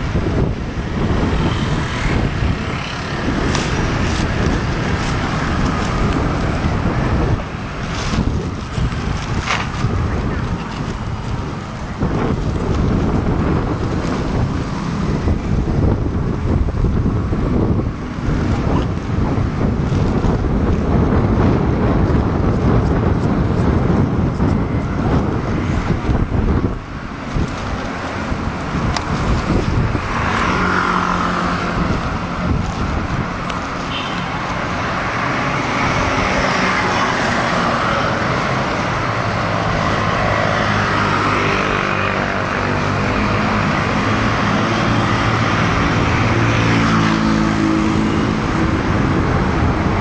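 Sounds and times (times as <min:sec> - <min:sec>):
road traffic rumble: 0:00.0 - 0:50.0
wind buffeting microphone: 0:00.0 - 0:50.0.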